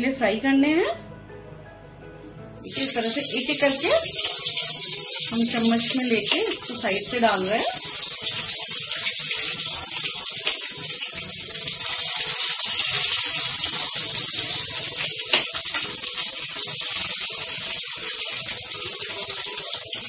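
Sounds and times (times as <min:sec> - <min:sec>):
deep-frying sizzle: 0:02.6 - 0:20.0.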